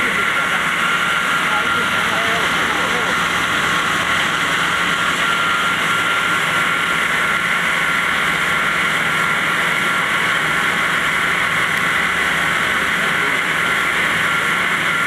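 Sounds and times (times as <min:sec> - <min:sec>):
wire saw cutting stone: 0:00.0 - 0:15.0.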